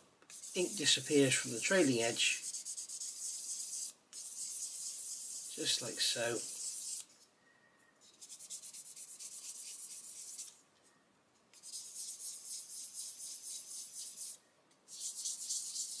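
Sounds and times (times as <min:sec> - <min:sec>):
sanding stick rubbing plastic: 0:00.3 - 0:07.1, 0:08.2 - 0:10.6, 0:11.6 - 0:16.0.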